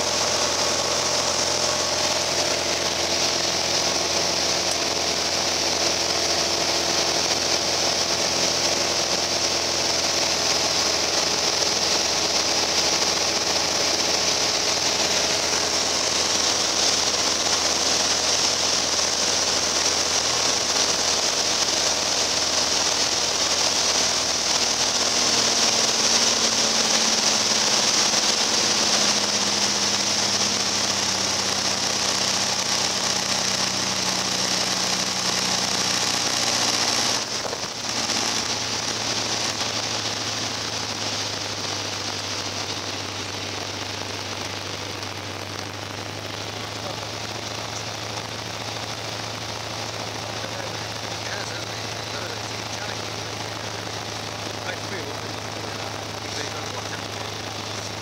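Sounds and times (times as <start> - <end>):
rush of air: 0.0 - 51.2
aircraft engine and propeller drone: 0.0 - 58.0.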